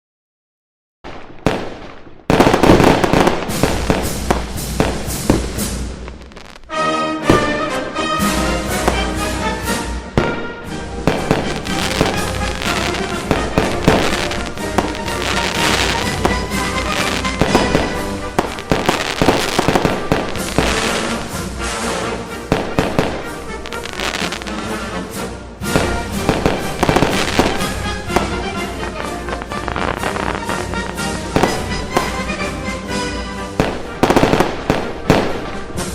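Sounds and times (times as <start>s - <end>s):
fireworks bangs: 1.0s - 24.9s, 25.6s - 35.9s
fireworks crackling: 1.1s - 35.9s
background music: 2.4s - 35.9s.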